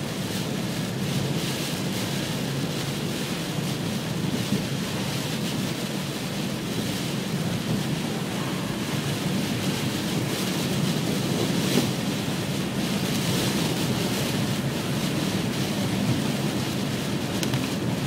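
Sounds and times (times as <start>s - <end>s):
heavy rain on car roof: 0.0s - 18.0s
tyres hissing on wet road: 0.0s - 18.0s.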